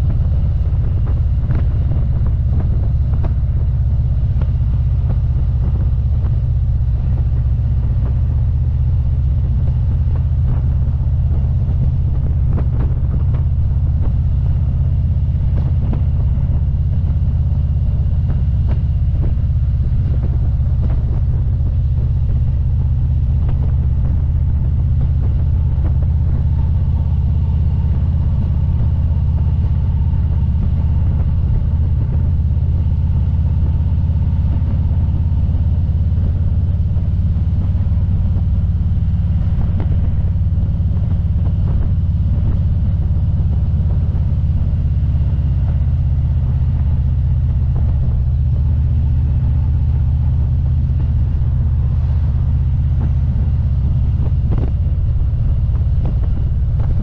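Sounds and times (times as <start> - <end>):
motorcycle engine and wind rumble: 0.0 - 57.0.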